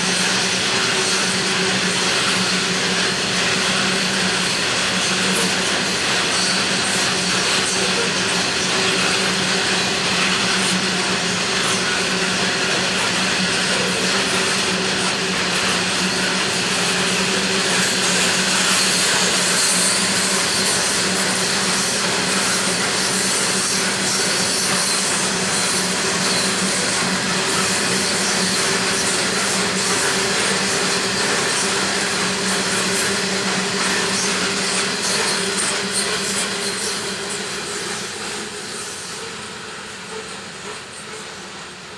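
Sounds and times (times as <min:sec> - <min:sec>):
train wagons rumbling on rails: 0:00.0 - 0:41.9.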